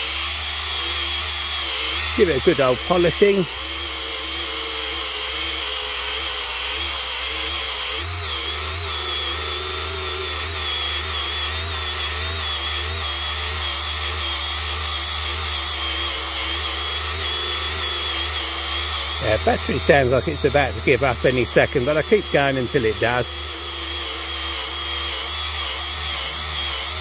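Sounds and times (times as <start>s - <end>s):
rotary polisher motor whine: 0.0s - 27.0s.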